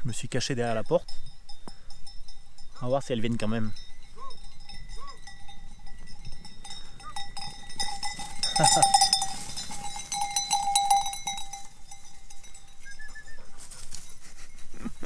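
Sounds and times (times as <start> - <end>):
sheep bells clanking: 0.0 - 15.0.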